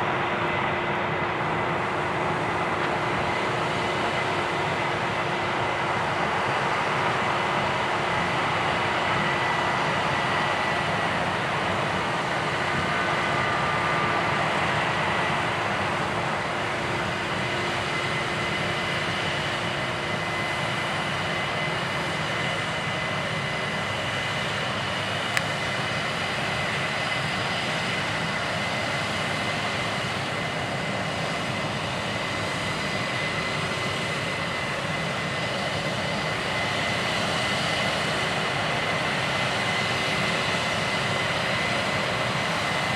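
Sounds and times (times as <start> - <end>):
diesel engine drone: 0.0 - 42.9
steady high whine: 0.0 - 42.9.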